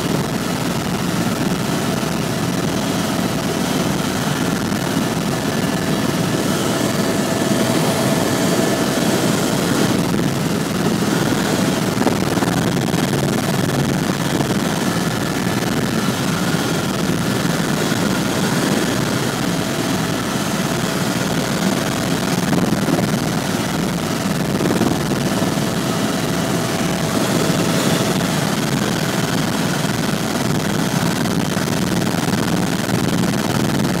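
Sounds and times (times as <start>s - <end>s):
faint steady whine: 0.0s - 34.0s
helicopter engine and rotor drone: 0.0s - 34.0s.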